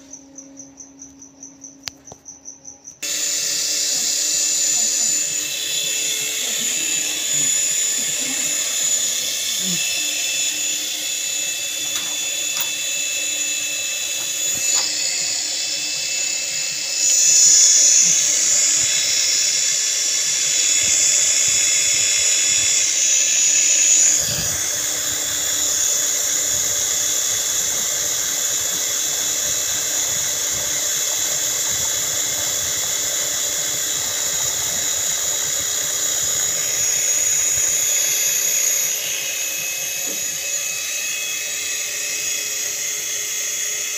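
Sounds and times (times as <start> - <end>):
model helicopter motor whine: 0.0 - 43.9
rotor blades whirring: 0.0 - 43.9.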